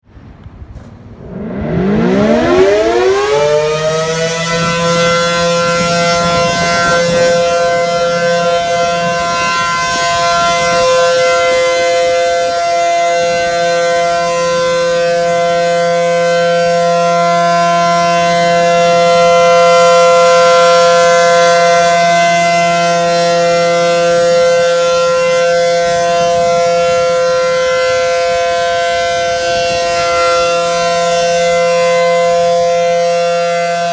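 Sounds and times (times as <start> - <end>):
warning siren wailing: 0.8 - 33.9.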